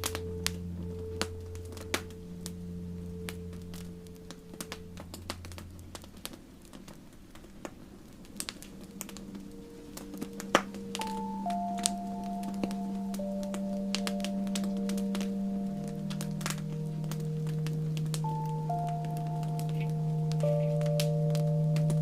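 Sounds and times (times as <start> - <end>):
campfire crackling: 0.0 - 22.0
soft music tones: 0.0 - 22.0.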